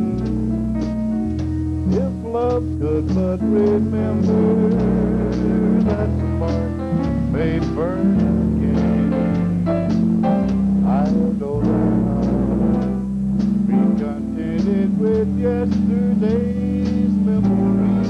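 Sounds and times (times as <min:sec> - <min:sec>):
bass notes: 0:00.0 - 0:18.0
country music with guitar: 0:00.0 - 0:18.0.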